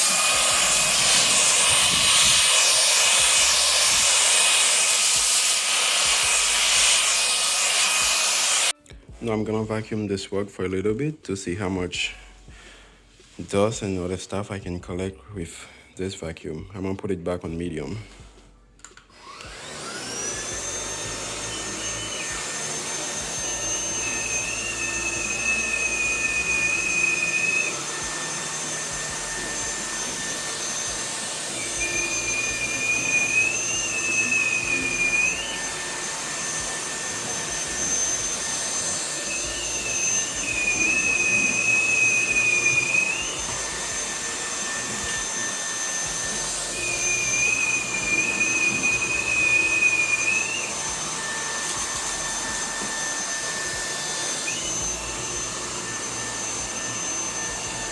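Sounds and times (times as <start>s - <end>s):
vacuum motor whine: 0.0s - 8.8s, 19.1s - 57.9s.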